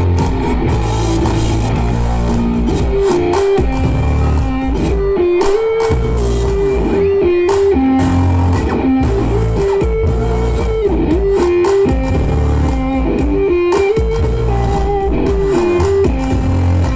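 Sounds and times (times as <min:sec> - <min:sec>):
bass guitar: 0:00.0 - 0:16.9
rock guitar melody: 0:00.0 - 0:16.9.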